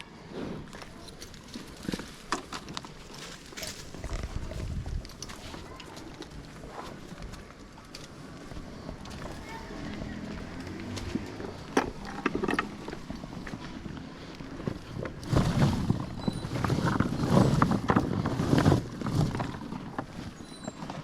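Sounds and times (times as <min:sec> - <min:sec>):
animals chewing sugarcane: 0:00.0 - 0:21.0.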